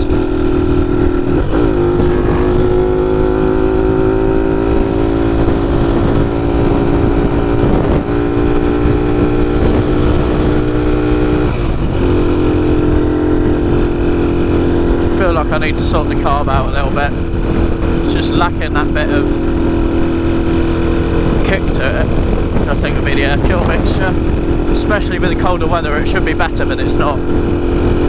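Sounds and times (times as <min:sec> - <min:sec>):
motorcycle engine cruising: 0:00.0 - 0:28.0
wind rumble on microphone: 0:00.0 - 0:28.0.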